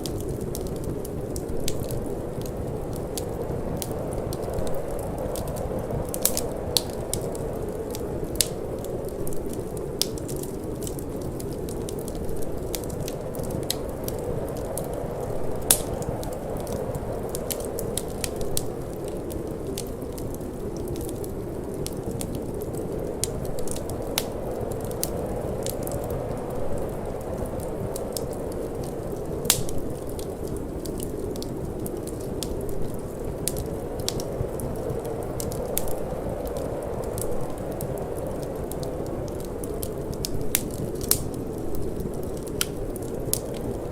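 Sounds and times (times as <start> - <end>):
fire popping: 0.0 - 43.9
low rush of wind: 0.0 - 43.9
wood fire crackling: 0.0 - 43.9.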